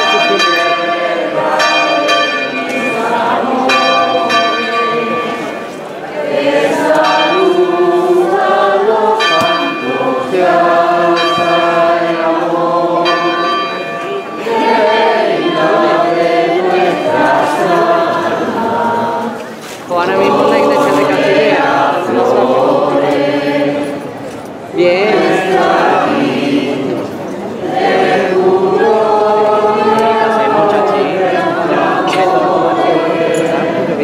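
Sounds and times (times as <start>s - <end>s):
church bells ringing: 0.0s - 24.0s, 24.8s - 34.0s
crowd singing: 0.0s - 34.0s.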